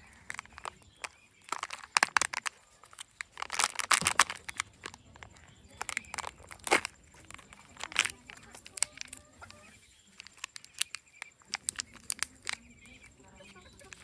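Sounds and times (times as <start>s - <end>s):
plastic packaging crinkling: 0.0s - 14.0s
sharp clicks: 0.0s - 14.0s.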